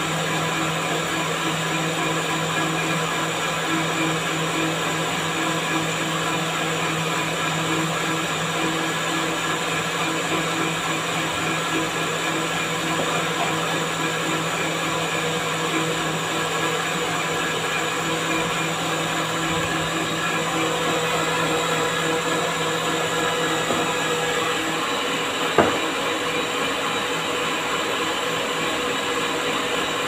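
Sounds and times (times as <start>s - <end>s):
blender motor hum: 0.0s - 30.0s.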